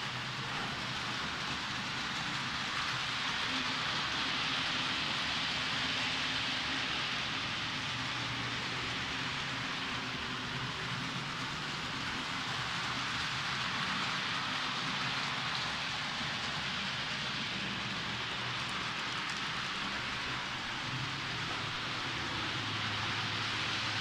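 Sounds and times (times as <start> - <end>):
model train wheels hissing on rails: 0.0 - 24.0.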